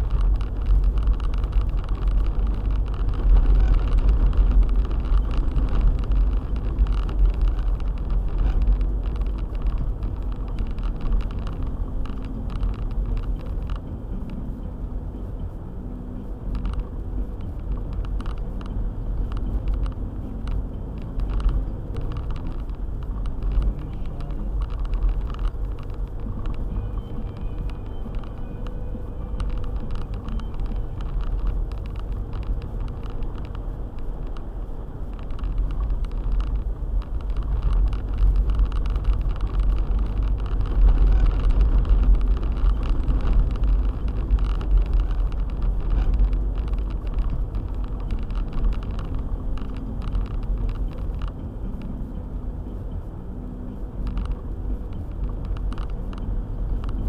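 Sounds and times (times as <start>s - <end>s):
small clicks and knocks: 0.0s - 14.5s, 16.3s - 53.1s, 53.7s - 57.0s
car engine and tyres rumbling: 0.0s - 57.0s.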